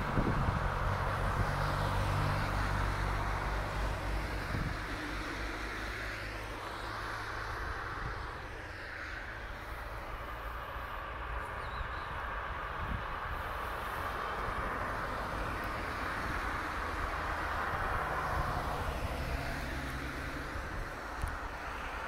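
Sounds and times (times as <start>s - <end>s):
cars driving past on wet road: 0.0s - 22.0s.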